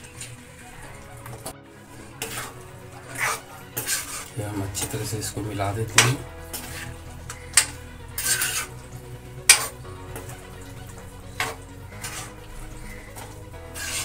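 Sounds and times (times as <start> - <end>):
ladle stirring and scraping vegetables: 0.0 - 14.0.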